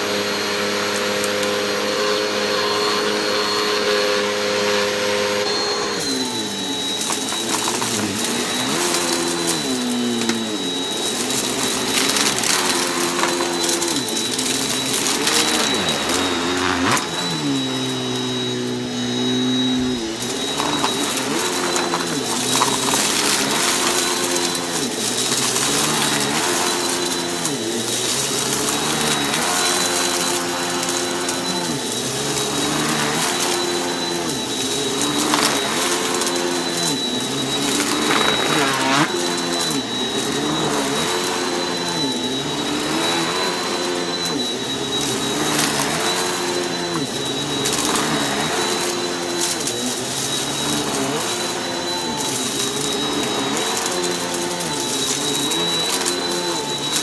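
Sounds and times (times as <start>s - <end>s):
upright vacuum cleaner whining: 0.0s - 57.0s.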